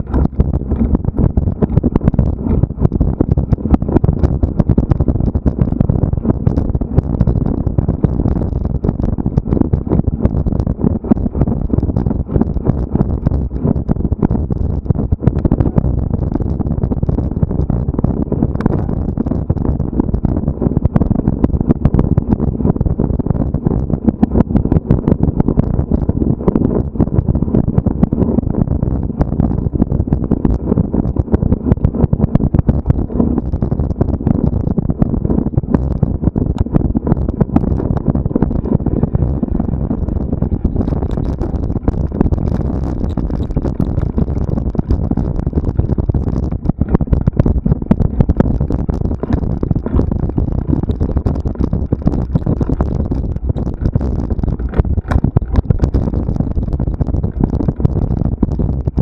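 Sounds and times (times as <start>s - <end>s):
low rumble of wind: 0.0s - 59.0s.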